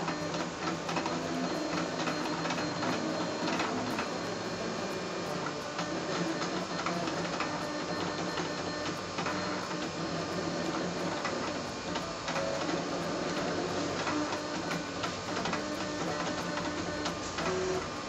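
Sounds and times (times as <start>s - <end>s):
stepper motors whirring: 0.0s - 18.0s.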